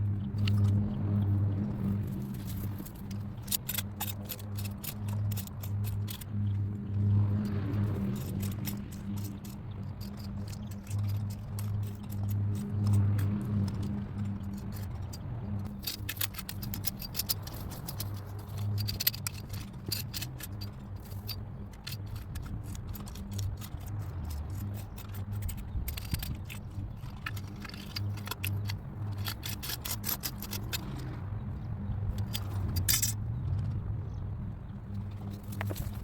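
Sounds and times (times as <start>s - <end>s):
gravel and metal clinking: 0.2s - 36.0s.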